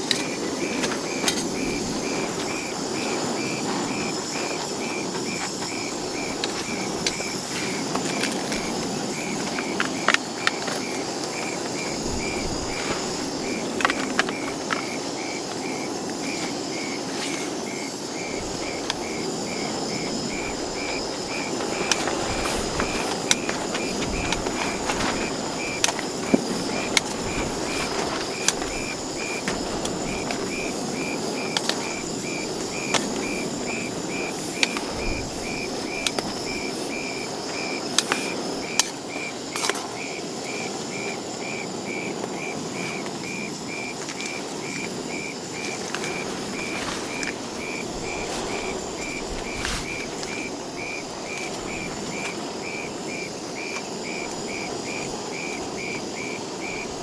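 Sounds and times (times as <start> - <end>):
cricket chirping: 0.0 - 57.0
steady background hiss: 0.0 - 57.0.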